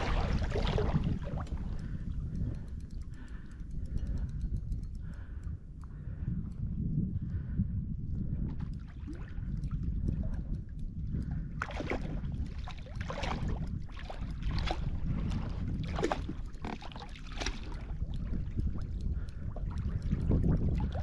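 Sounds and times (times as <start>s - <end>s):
water splashing around kayak: 0.0s - 5.3s, 8.4s - 21.0s
wind rumble on microphone: 0.0s - 21.0s.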